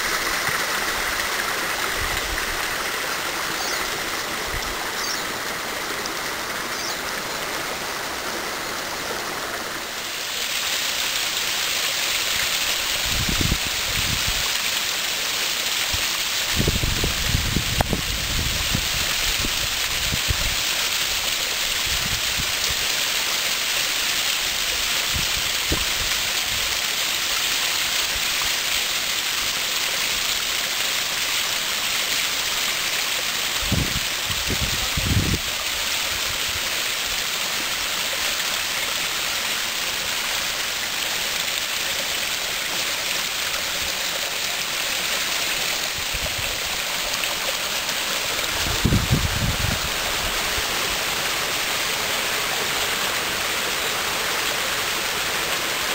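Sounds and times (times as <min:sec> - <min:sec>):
waterfall splashing over rocks: 0:00.0 - 0:55.9.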